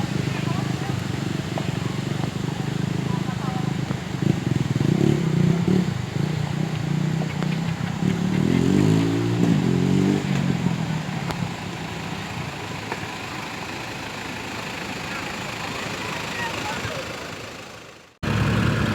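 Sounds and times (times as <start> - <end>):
off-road vehicle engine revving: 0.0 - 18.9.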